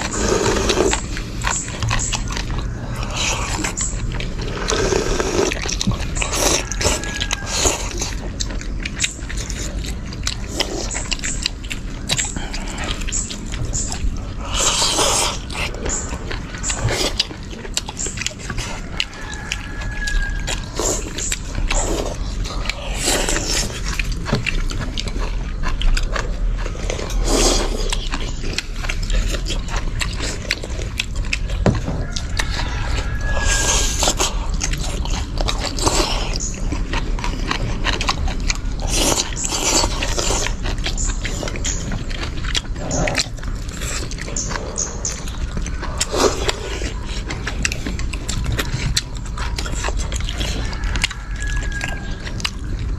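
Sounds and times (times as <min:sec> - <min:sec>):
loud slurping: 0:00.0 - 0:11.4, 0:12.0 - 0:25.4, 0:26.2 - 0:31.5, 0:32.1 - 0:52.8
people chewing noodles: 0:00.0 - 0:52.9.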